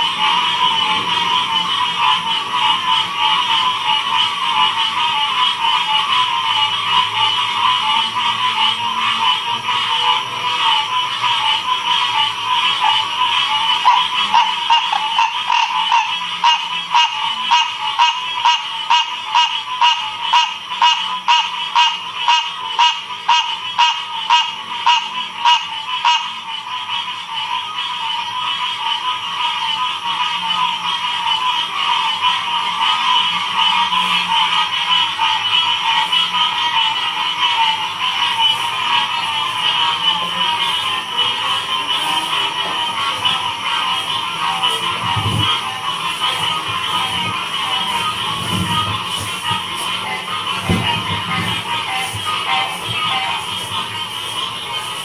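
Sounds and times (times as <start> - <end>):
frog chorus trilling: 0.0 - 55.0
loud frog calling sharp notes: 0.0 - 55.0.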